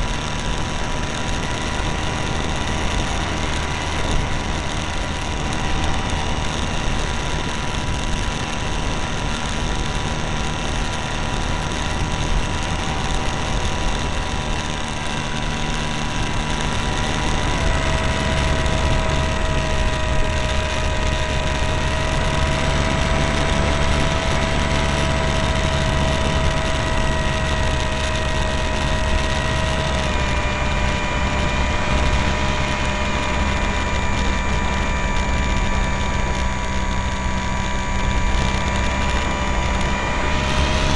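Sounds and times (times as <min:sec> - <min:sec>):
model airplane motor and propeller: 0:00.0 - 0:40.9.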